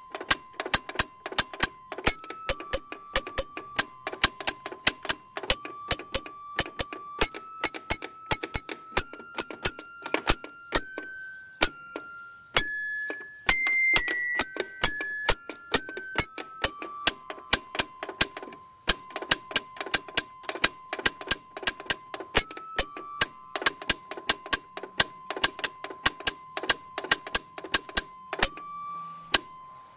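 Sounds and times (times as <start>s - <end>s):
toy piano notes: 0.0s - 29.9s.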